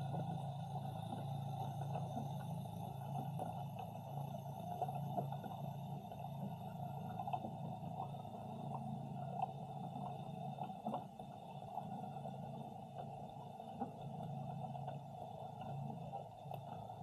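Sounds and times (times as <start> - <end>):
muffled underwater hum: 0.0 - 17.0
faint clicks: 1.0 - 17.0.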